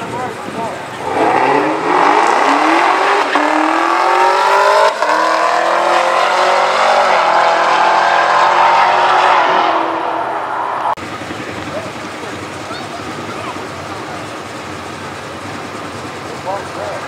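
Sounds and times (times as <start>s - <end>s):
drag car engines accelerating: 0.0s - 17.0s.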